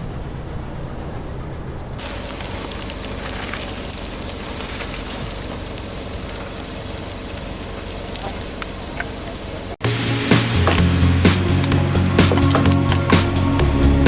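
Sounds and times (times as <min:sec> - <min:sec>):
tyre crushing brittle objects: 0:02.0 - 0:13.5
low engine hum: 0:02.0 - 0:14.0.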